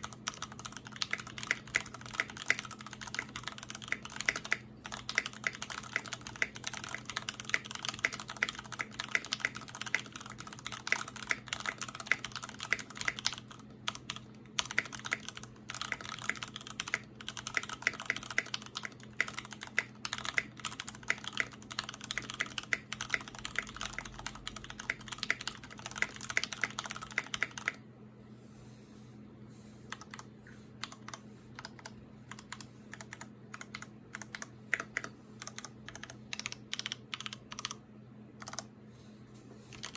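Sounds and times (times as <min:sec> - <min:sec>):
mechanical keyboard typing: 0:00.0 - 0:27.8, 0:29.9 - 0:37.8, 0:38.4 - 0:38.7
steady low hum: 0:00.0 - 0:39.9.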